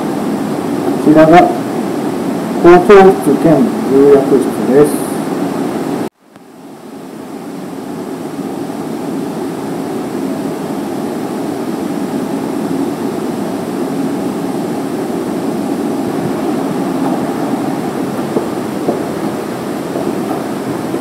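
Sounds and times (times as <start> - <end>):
low rushing background noise: 0.0 - 21.0.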